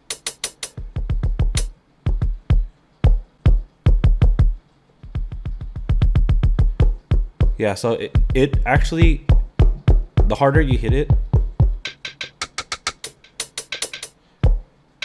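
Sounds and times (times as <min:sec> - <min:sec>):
electronic kick drum hits: 0:00.0 - 0:07.6, 0:08.2 - 0:11.8, 0:13.6 - 0:14.7
fast kick drum roll: 0:00.0 - 0:07.6, 0:08.2 - 0:11.8, 0:12.4 - 0:14.7.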